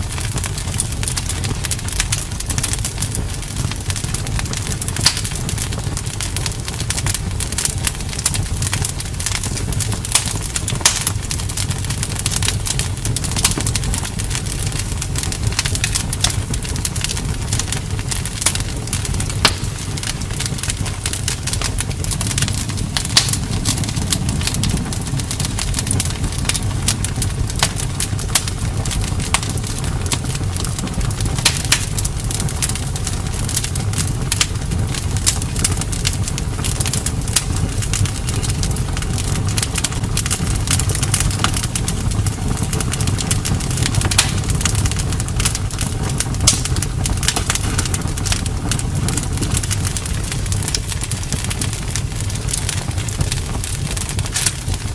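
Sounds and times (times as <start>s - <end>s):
campfire crackling and popping: 0.0s - 54.9s
low rumble of flames: 0.0s - 54.9s.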